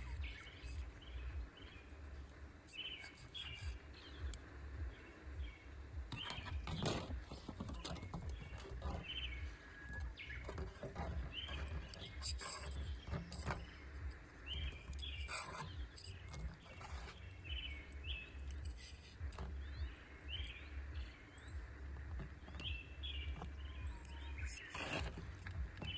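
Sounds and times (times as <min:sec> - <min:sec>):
small bird chirping: 0:00.0 - 0:25.9
wind rumble on microphone: 0:00.0 - 0:25.9.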